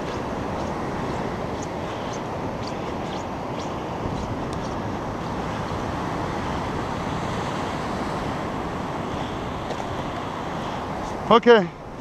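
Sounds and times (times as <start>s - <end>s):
breaking surf: 0.0s - 12.0s
wind on the microphone: 0.0s - 12.0s.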